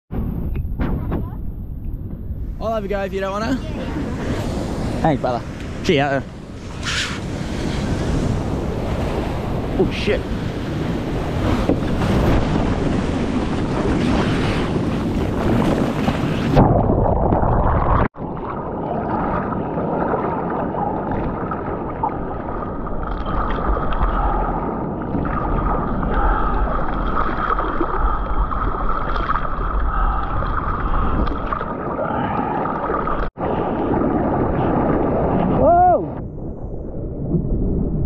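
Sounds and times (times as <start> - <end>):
wind noise: 0.1 - 38.0
surf and rushing water: 2.3 - 38.0.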